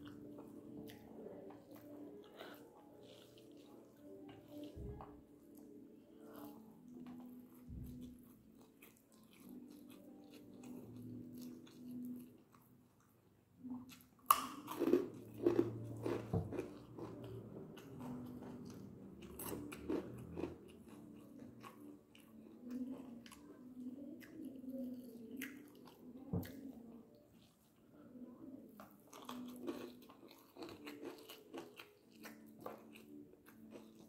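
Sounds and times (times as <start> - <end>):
person chewing food: 0.0 - 28.0, 28.7 - 34.0.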